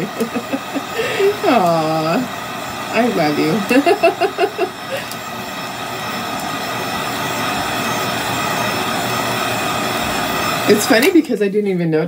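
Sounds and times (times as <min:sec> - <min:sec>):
heat gun blowing: 0:00.0 - 0:11.3.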